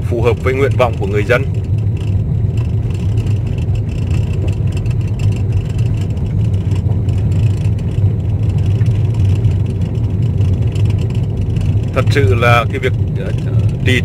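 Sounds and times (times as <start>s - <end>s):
vehicle driving on gravel: 0.0s - 14.0s.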